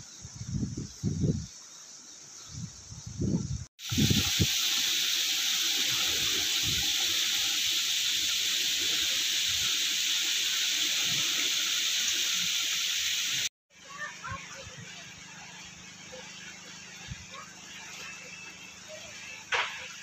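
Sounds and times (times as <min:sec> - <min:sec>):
fountain water splashing into pool: 0:03.8 - 0:20.0.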